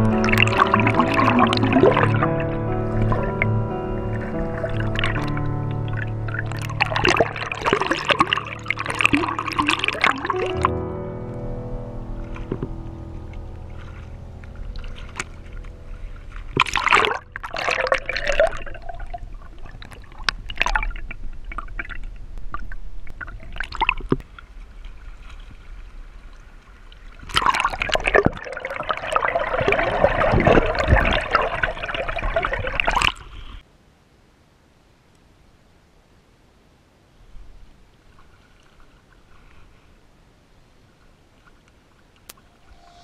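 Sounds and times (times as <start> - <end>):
river water splashing and gurgling: 0.0 - 10.8, 12.0 - 33.6, 37.9 - 43.0.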